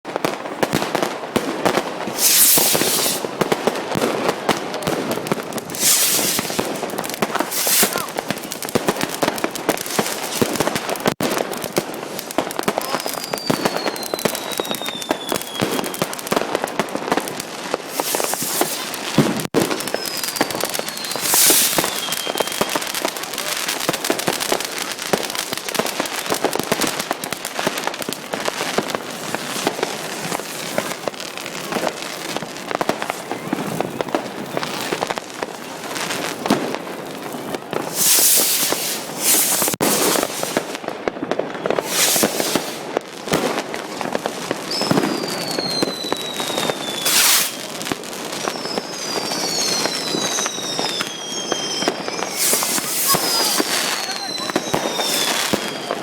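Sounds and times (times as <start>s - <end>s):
fireworks bangs and crackling: 0.0s - 56.0s
firework hissing: 1.7s - 41.0s, 41.6s - 56.0s
falling firework whistles: 2.0s - 4.2s, 4.8s - 31.1s, 35.9s - 43.6s, 44.5s - 56.0s.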